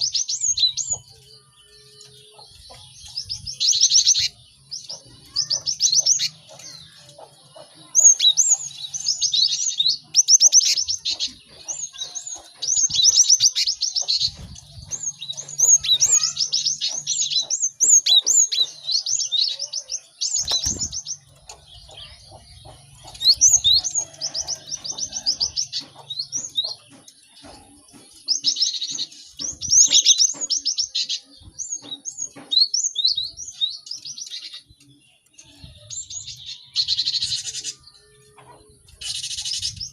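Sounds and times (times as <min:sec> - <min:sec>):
birds singing rapid high chirps: 0:00.0 - 0:39.9.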